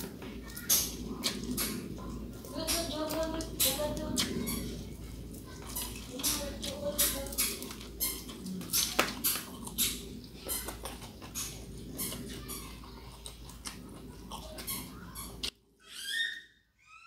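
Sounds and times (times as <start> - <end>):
chewing clicks: 0.0 - 15.6
background hum: 0.0 - 17.0.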